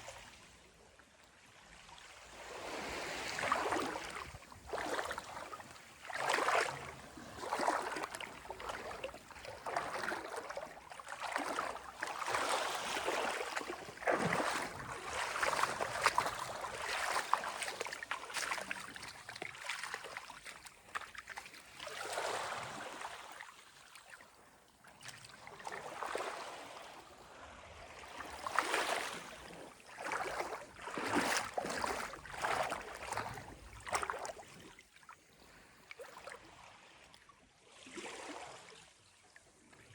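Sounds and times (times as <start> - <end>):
sea water lapping and splashing: 0.0 - 39.9.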